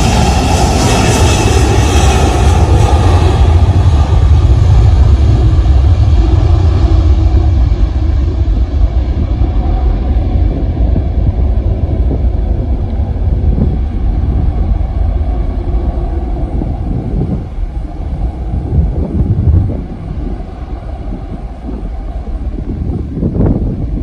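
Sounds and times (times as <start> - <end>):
jet engines roaring at takeoff: 0.0 - 24.0.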